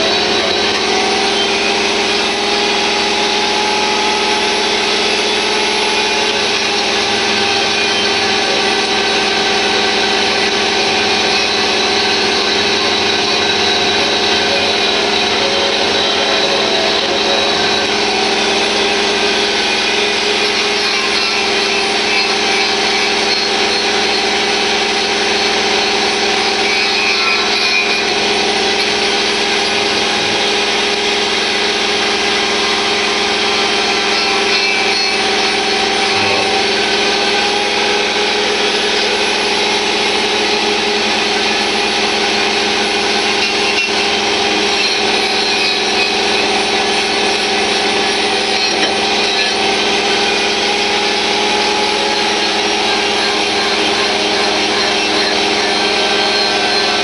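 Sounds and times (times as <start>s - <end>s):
abrasive grinding on metal: 0.0s - 57.0s
power tool motor whine: 0.0s - 57.0s.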